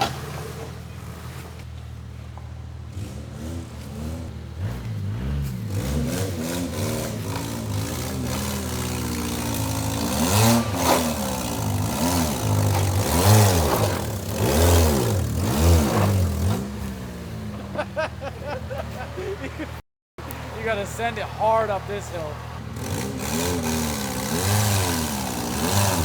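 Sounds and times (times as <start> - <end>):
car engine revving: 0.0 - 19.7, 20.3 - 26.0.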